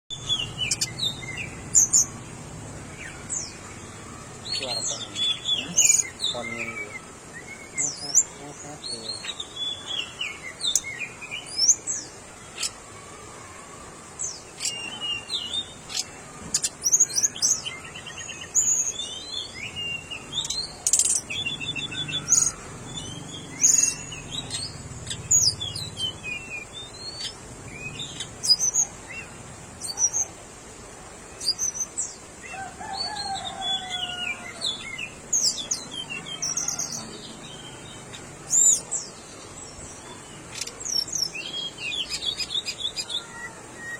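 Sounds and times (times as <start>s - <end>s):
bird twittering song: 0.1s - 13.1s, 14.2s - 30.4s, 31.3s - 43.9s.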